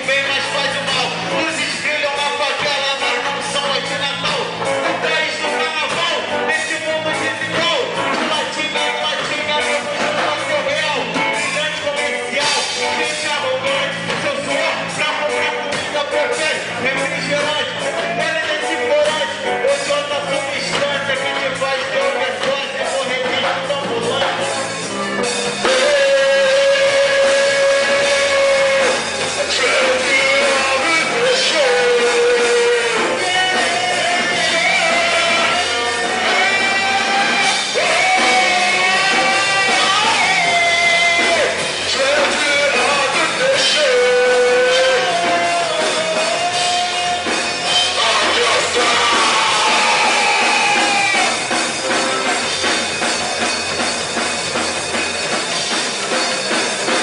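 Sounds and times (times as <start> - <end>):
rock band playing: 0.0 - 57.0.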